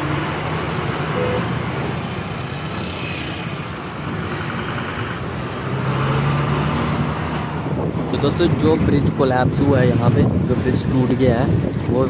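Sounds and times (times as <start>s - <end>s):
bus engine running: 0.0s - 12.0s
road traffic noise: 0.0s - 12.0s.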